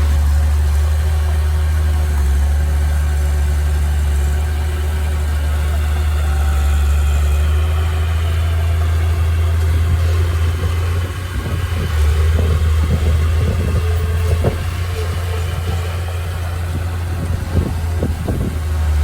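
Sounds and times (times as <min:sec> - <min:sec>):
heavy machine engine running: 0:00.0 - 0:19.0
rattling: 0:00.0 - 0:19.0.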